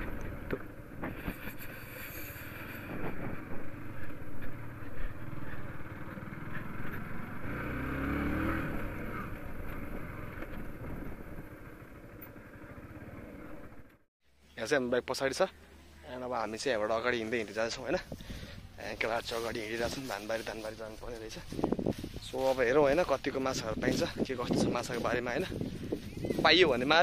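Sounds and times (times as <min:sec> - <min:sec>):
motorcycle engine running: 0:00.0 - 0:14.1, 0:18.4 - 0:27.0
wind: 0:00.0 - 0:27.0.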